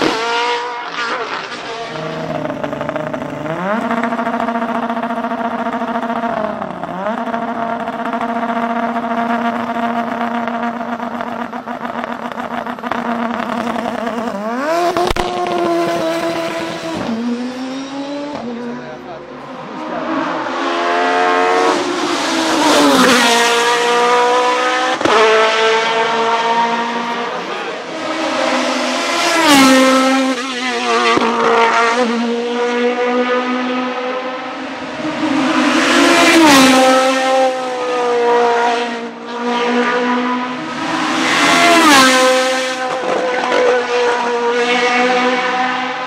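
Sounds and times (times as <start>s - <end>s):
racing car engines revving: 0.0s - 46.0s.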